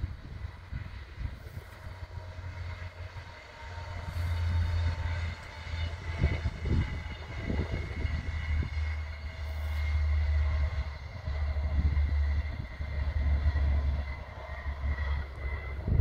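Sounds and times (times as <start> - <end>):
wind buffeting the microphone: 0.0 - 3.3, 3.9 - 9.1, 10.5 - 16.0
distant train hum and whine: 0.0 - 16.0.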